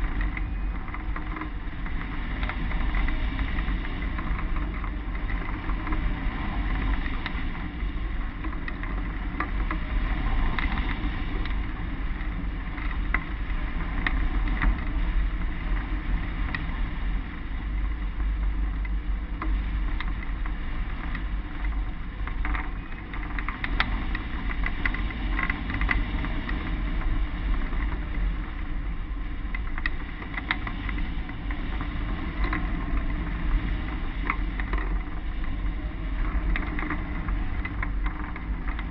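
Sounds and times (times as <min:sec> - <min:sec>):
small clicks and rattles: 0:00.0 - 0:38.9
wind rushing over microphone: 0:00.0 - 0:38.9.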